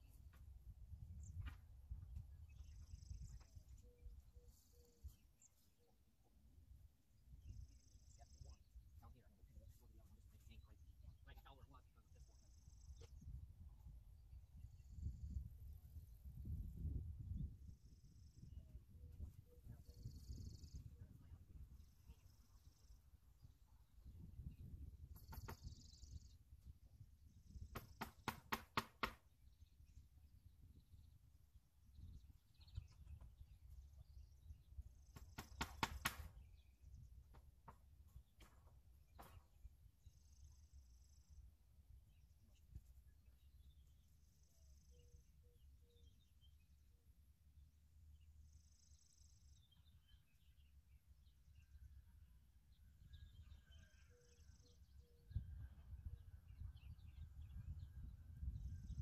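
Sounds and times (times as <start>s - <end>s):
faint bird chirps: 1.0s - 28.0s, 29.4s - 59.0s.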